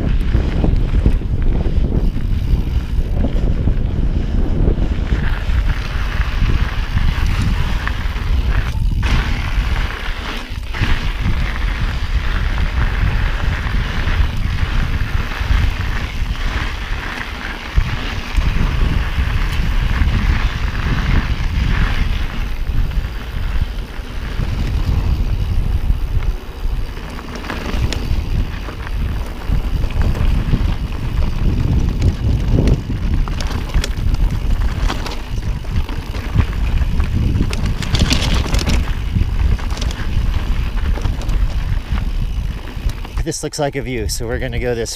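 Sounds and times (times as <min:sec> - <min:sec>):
bike clicks and rattles: 0:00.0 - 0:44.9
tyres rolling on dirt trail: 0:00.0 - 0:44.9
wind buffeting microphone: 0:00.0 - 0:44.9.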